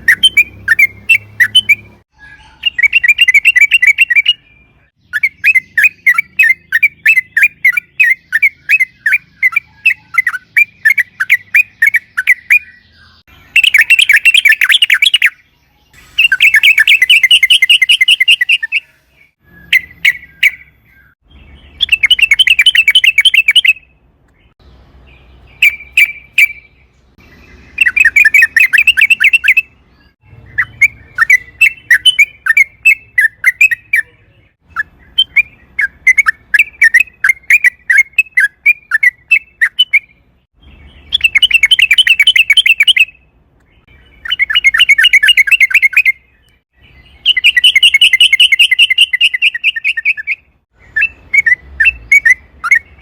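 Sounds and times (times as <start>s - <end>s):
bird chattering song: 0.0s - 53.0s.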